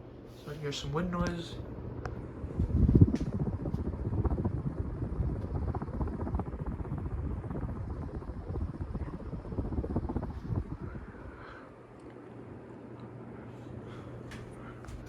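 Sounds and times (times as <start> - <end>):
air buffeting microphone: 0.0 - 15.0
ceiling fan wind noise: 0.0 - 15.0.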